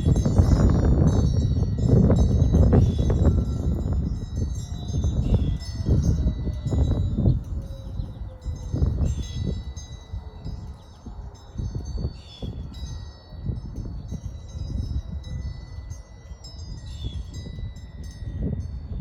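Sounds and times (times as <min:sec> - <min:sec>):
wind chimes ringing: 0:00.0 - 0:19.0
wind rumbling on microphone: 0:00.0 - 0:19.0.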